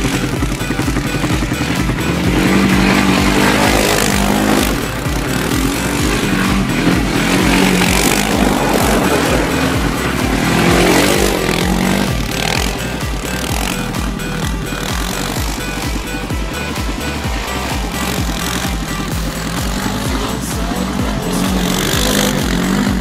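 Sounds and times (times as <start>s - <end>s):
quad engine revving: 0.0s - 23.0s.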